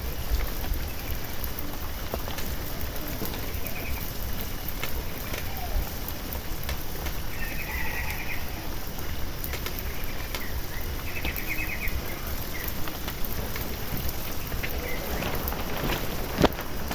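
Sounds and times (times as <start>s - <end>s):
sprinkler water pattering: 0.0s - 16.9s.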